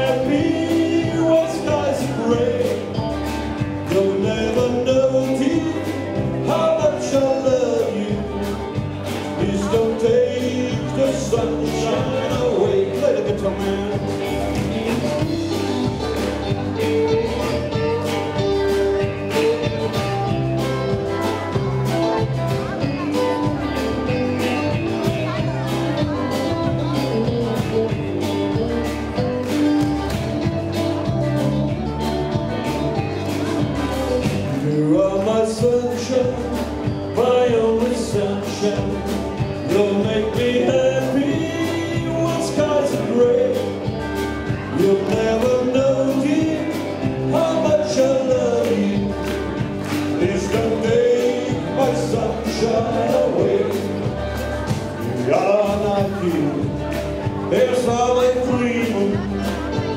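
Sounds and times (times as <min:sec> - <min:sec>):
drums keeping a steady beat: 0:00.0 - 0:59.9
electric guitar: 0:00.0 - 0:59.9
sliding lead melody: 0:00.0 - 0:59.9.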